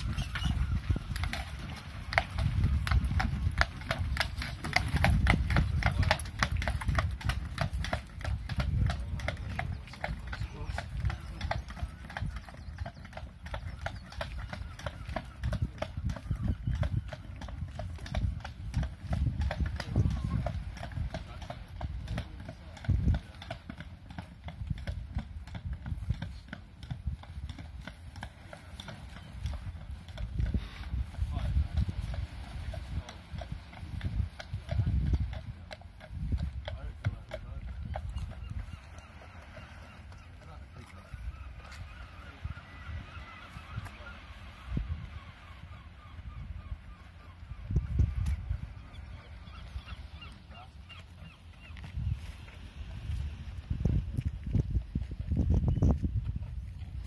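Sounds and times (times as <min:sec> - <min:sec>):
hooves clip-clopping on pavement: 0:00.0 - 0:57.0.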